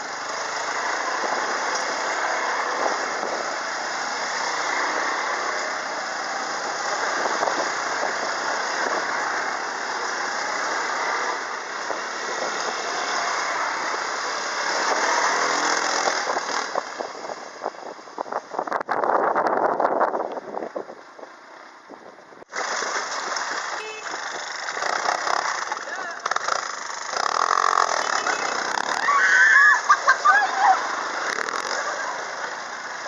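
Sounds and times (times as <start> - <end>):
quad bike engine running: 0.0 - 17.8, 22.5 - 33.0.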